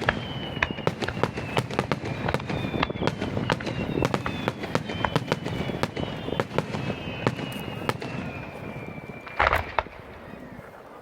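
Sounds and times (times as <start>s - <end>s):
fireworks popping and crackling: 0.0s - 10.8s
fireworks whistling: 0.0s - 11.0s.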